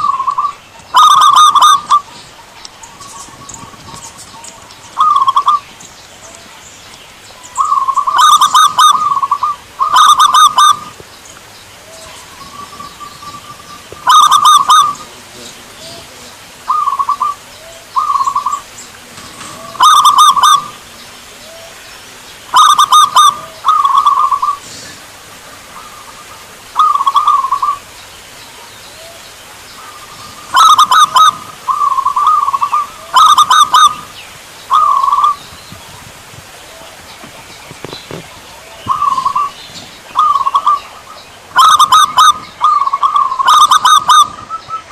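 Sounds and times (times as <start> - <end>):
doves cooing in trilled phrases: 0.0 - 44.9.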